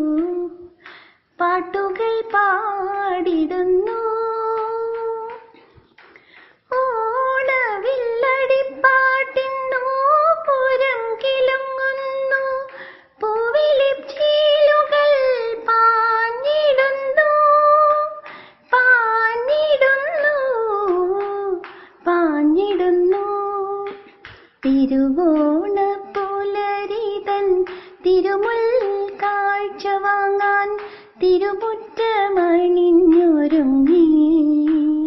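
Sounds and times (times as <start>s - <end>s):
woman singing unaccompanied: 0.0s - 5.6s, 6.7s - 35.0s.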